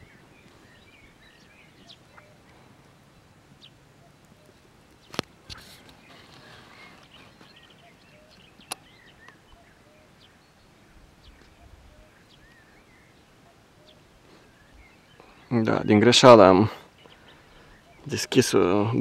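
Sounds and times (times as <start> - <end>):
bird chirps and calls: 0.0 - 19.0
faint outdoor ambience: 0.0 - 19.0.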